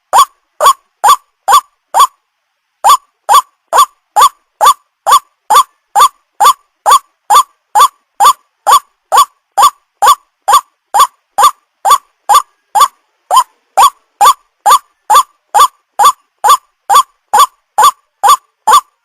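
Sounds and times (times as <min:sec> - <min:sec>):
waterhen calling harsh notes: 0:00.0 - 0:02.2, 0:02.8 - 0:19.0.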